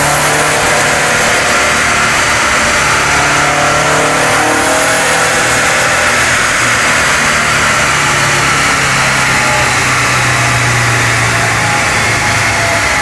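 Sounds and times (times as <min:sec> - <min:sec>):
loud car engine running: 0:00.0 - 0:13.0
roller and fan rush: 0:00.0 - 0:13.0.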